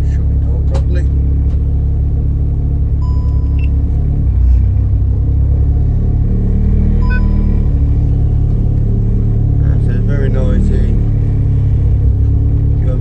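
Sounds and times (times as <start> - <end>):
race car engine drone: 0.0 - 13.0
road noise: 0.0 - 13.0.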